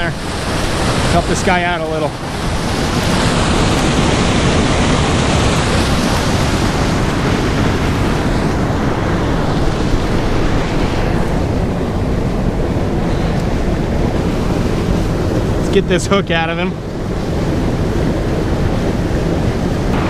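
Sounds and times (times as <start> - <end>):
churning water rushing: 0.0 - 20.0.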